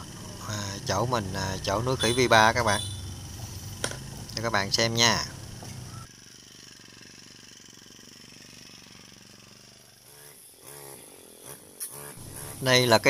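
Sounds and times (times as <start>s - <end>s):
brush cutter engine droning: 0.0s - 13.0s.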